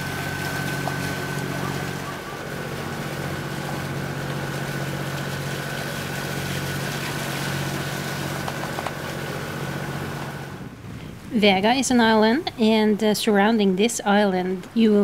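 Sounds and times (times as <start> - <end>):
diesel engine running: 0.0 - 13.8
high steady whine: 0.0 - 13.8
water rushing along hull: 0.0 - 15.0.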